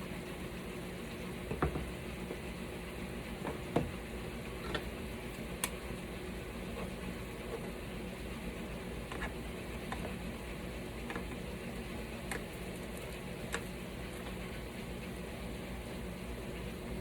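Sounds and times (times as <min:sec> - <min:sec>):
kitchen hum and hiss: 0:00.0 - 0:17.0.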